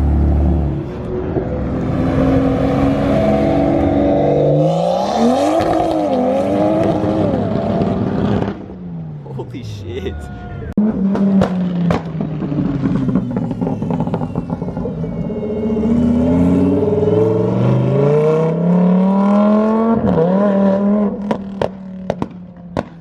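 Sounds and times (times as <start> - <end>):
car engine revving: 0.0 - 9.3, 10.8 - 22.9.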